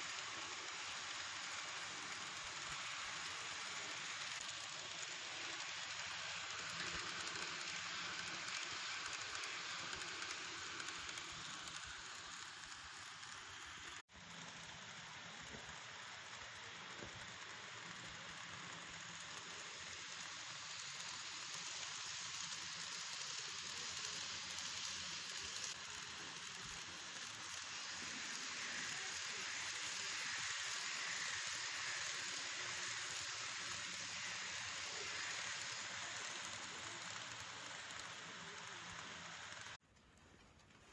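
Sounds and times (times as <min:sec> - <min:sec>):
model train running on track: 0:00.0 - 0:40.9.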